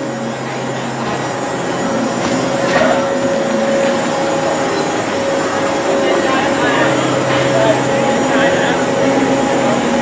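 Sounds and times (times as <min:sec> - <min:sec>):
carousel machinery whirring: 0:00.0 - 0:10.0.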